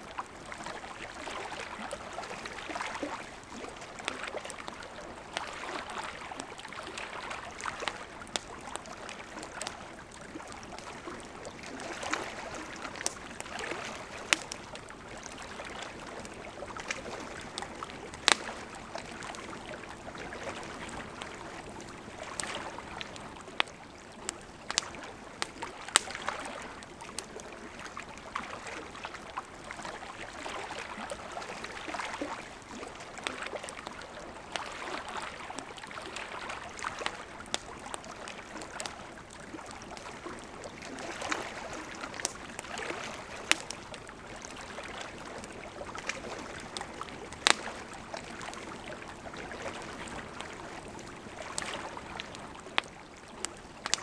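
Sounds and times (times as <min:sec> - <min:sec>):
fire crackles and pops: 0:00.1 - 0:54.0.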